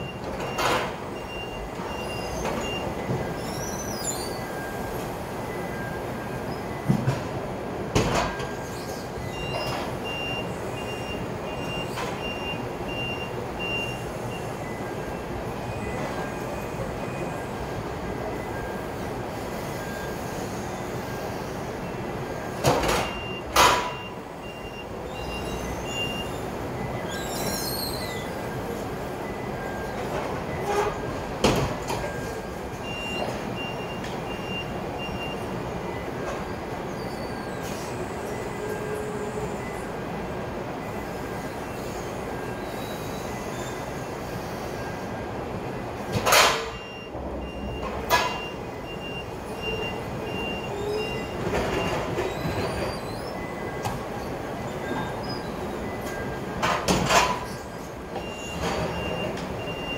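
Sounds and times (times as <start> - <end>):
reversing alarm beeping: 0.0 - 7.2, 7.8 - 59.9
steady background noise: 0.0 - 59.9.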